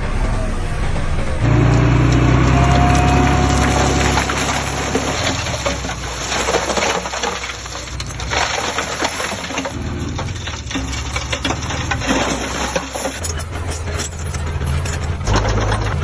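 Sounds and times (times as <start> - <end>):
diesel engine running low: 0.0 - 16.0
soil and stones crunching: 1.4 - 16.0.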